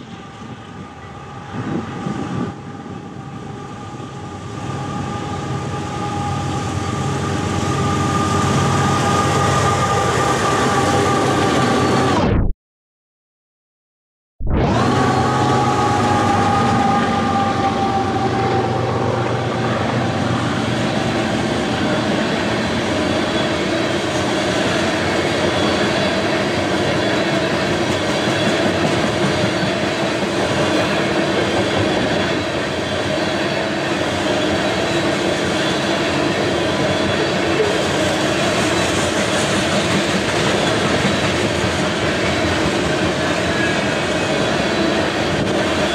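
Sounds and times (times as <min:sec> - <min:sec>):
diesel locomotive engine: 0:00.0 - 0:12.2, 0:14.6 - 0:45.9
train wheels on rails: 0:00.0 - 0:12.2, 0:14.9 - 0:45.9.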